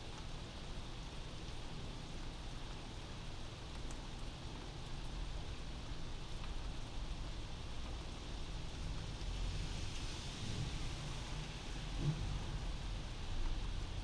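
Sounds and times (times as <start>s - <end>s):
steady rain hiss: 0.2s - 14.0s.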